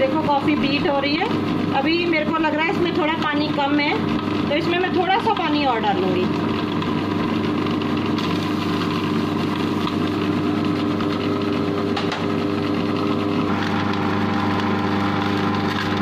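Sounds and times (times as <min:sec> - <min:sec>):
food processor motor running: 0:00.0 - 0:16.0.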